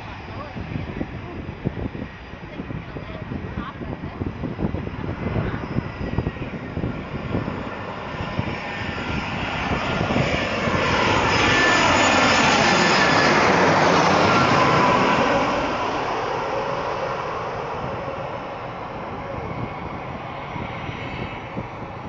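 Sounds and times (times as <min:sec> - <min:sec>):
airplane passing overhead: 0:00.0 - 0:22.0.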